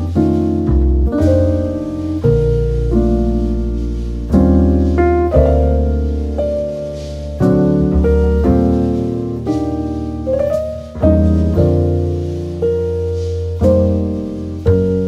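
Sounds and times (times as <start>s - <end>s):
piano chords over bass line: 0.0s - 15.0s.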